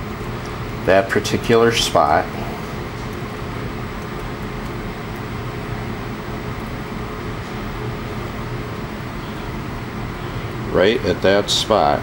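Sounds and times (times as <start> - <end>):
mechanical hum of machinery: 0.0 - 12.0.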